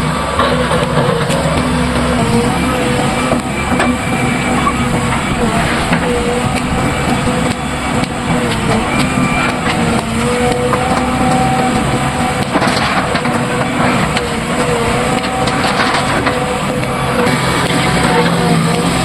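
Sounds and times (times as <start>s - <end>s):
backhoe diesel engine running: 0.0s - 19.0s
metal clanks: 0.4s - 19.0s.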